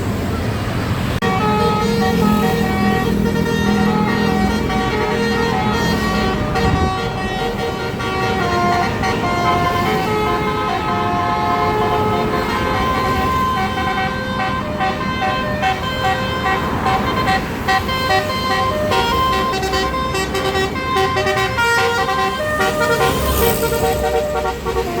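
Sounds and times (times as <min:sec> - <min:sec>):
low vehicle noise: 0:00.0 - 0:25.0
multi-note bus air horn tune: 0:01.2 - 0:25.0.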